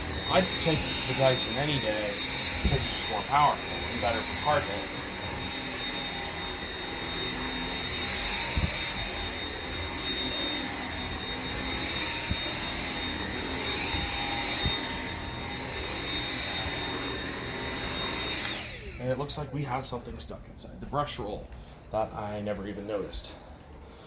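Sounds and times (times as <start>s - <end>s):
vacuum cleaner whine and suction: 0.0s - 19.9s.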